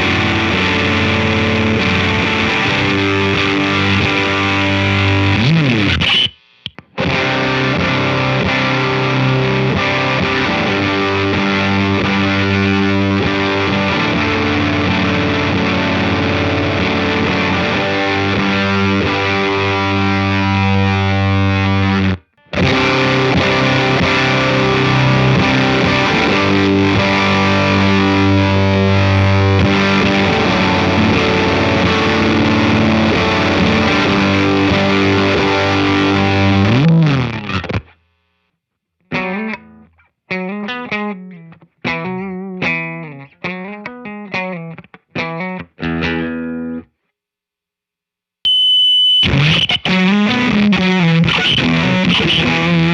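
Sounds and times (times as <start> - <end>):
distorted electric guitar riffs: 0.0 - 38.4, 39.1 - 46.9, 48.5 - 52.9.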